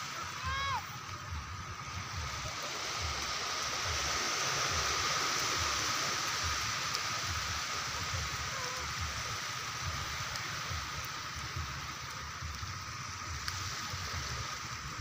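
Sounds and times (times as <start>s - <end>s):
rushing shoreline water: 0.0s - 15.0s.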